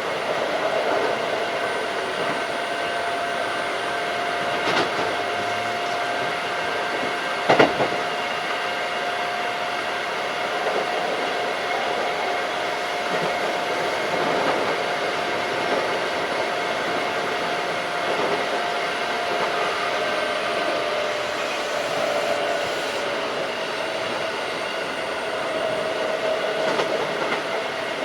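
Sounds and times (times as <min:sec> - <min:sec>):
train wheels rumbling: 0:00.0 - 0:28.0
electric motor whine: 0:01.2 - 0:26.5.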